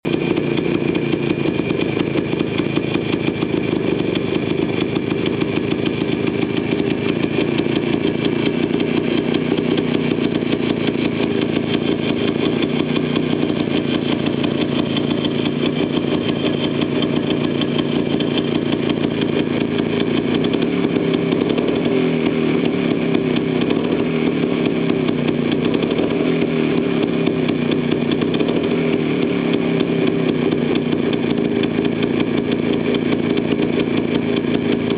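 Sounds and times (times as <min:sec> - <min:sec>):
two-stroke engine running: 0:00.0 - 0:34.9.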